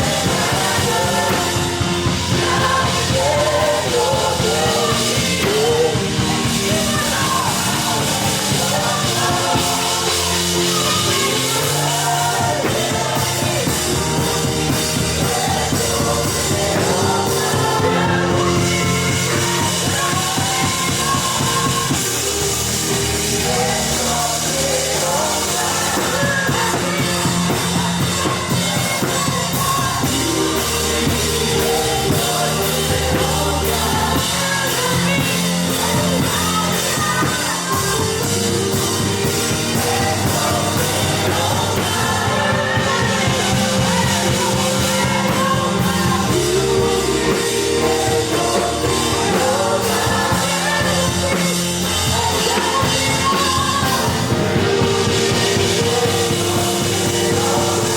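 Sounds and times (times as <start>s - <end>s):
band playing worship music: 0.0s - 57.9s
drums: 0.0s - 57.9s
people singing: 0.0s - 57.9s.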